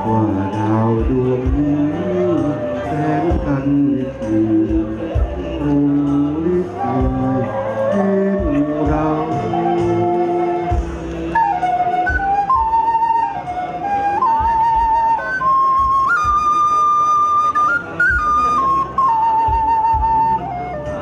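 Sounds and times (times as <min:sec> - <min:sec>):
flute playing slow melody: 0:00.0 - 0:21.0
low backing beat: 0:00.0 - 0:21.0.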